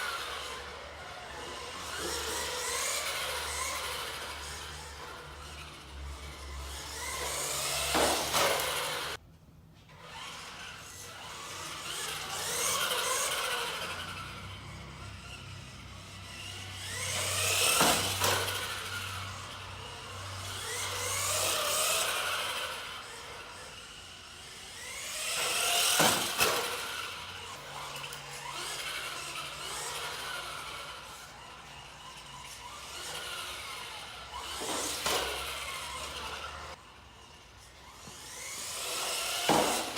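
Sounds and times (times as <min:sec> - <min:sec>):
toy truck electric motor whining: 0:00.0 - 0:09.2, 0:09.9 - 0:39.9.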